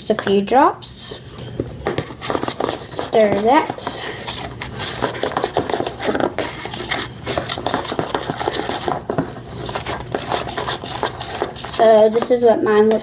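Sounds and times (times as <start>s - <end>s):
soft squelching mixture: 0.0s - 13.0s.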